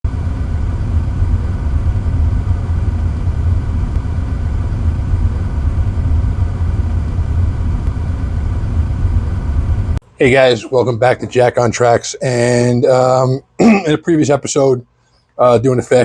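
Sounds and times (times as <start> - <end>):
loud low rumble: 0.0 - 13.8.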